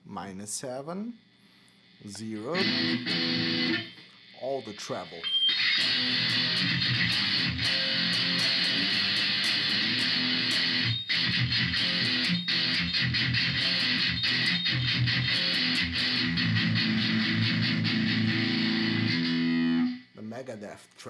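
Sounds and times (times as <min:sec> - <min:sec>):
bright electric guitar playing: 0:02.2 - 0:04.0, 0:04.6 - 0:20.1.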